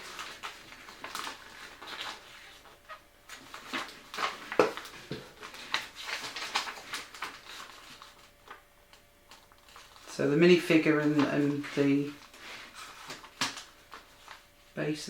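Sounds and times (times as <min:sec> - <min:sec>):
paper pages rustling: 0:00.0 - 0:14.6.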